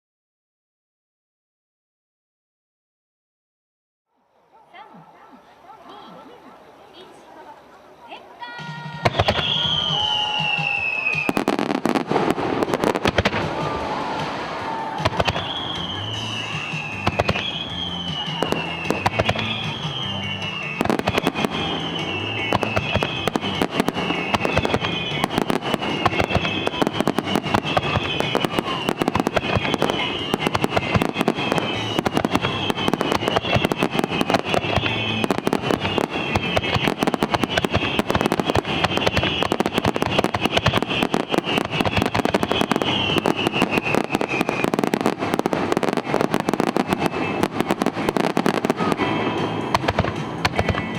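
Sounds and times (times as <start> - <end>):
background music: 4.4 - 50.9
fireworks popping and crackling: 8.4 - 50.9
fireworks whistling: 8.4 - 50.9.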